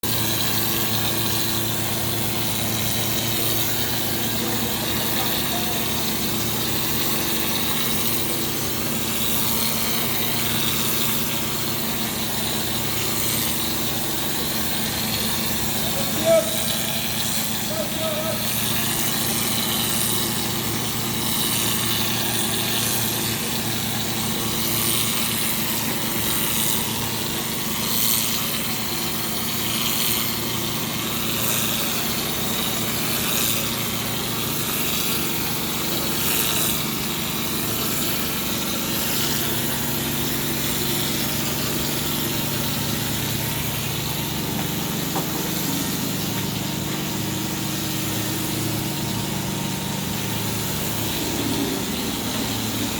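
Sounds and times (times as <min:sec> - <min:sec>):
spraying machine motor hum: 0:00.0 - 0:52.9.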